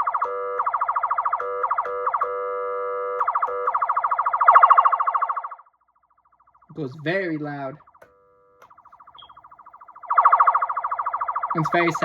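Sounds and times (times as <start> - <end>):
electronic police siren warble: 0.0 - 12.0
steady siren blasts: 0.0 - 12.0.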